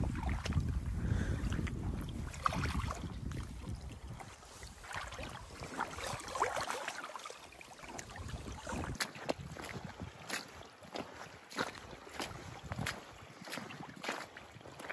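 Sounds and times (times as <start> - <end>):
footsteps wading through water: 0.0 - 14.9.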